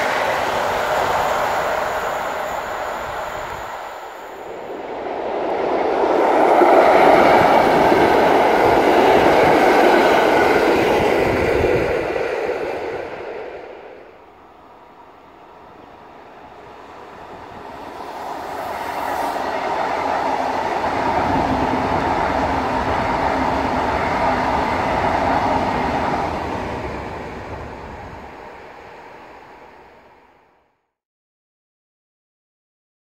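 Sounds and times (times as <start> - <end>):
passenger train passing: 0.0 - 30.7.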